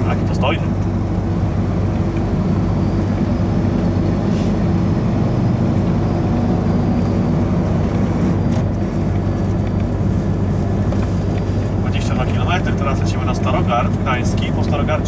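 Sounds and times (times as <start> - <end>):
diesel lorry engine running: 0.0 - 15.0
tyre and road noise: 0.0 - 15.0.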